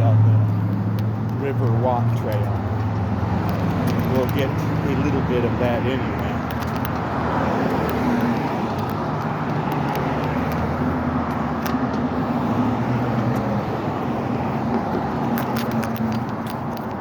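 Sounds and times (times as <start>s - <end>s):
car engine hum: 0.0s - 17.0s
tyres rumbling on road: 0.0s - 17.0s.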